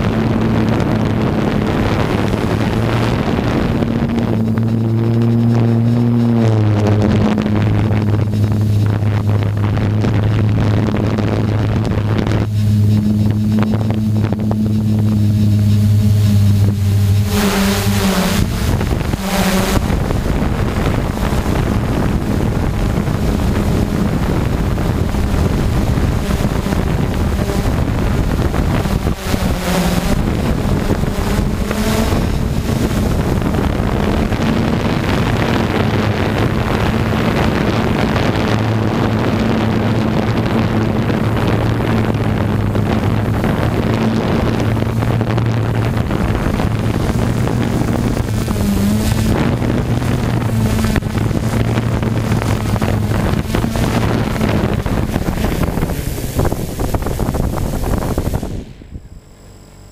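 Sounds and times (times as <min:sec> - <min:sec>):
drone propellers droning: 0:00.0 - 0:59.9
wind buffeting microphone: 0:00.0 - 0:59.9.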